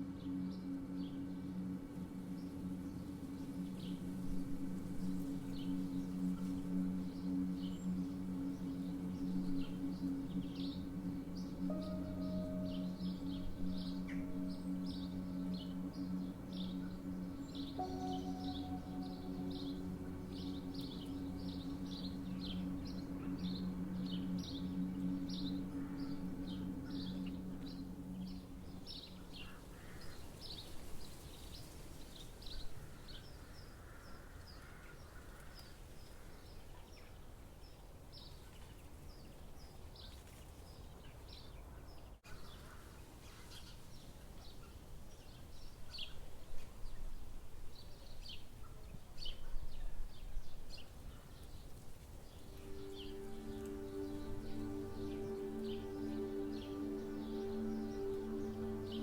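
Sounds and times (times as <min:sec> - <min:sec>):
low music drone: 0:00.0 - 0:37.0, 0:45.2 - 0:59.0
small birds chirping: 0:04.8 - 0:59.0.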